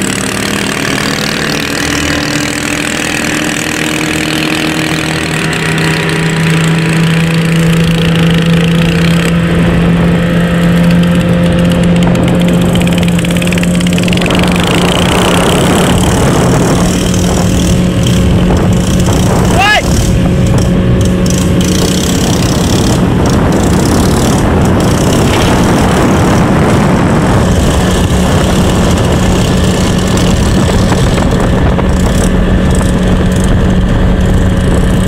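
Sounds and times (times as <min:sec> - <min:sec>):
small boat engine running: 0:00.0 - 0:35.0.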